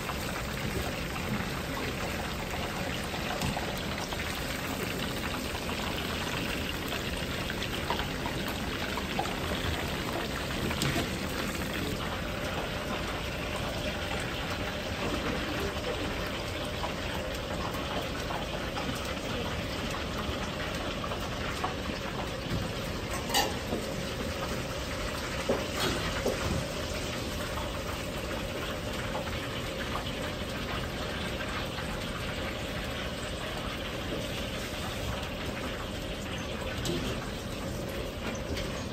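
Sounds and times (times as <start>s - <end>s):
oil sizzling in a wok: 0.0s - 38.9s.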